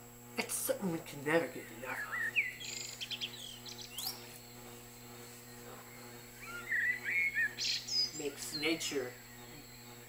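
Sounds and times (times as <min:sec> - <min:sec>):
faint steady hum: 0:00.0 - 0:10.0
birds chirping: 0:00.1 - 0:10.0.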